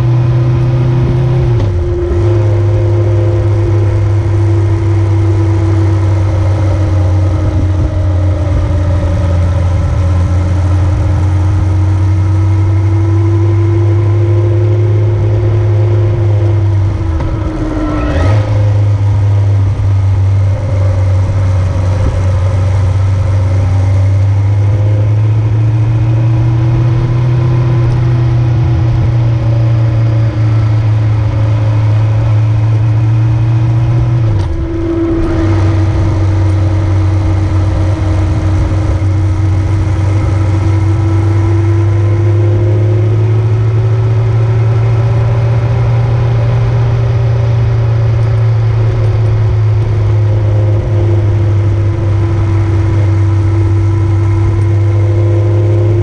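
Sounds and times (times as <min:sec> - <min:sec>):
vehicle engine drone: 0:00.0 - 0:56.0.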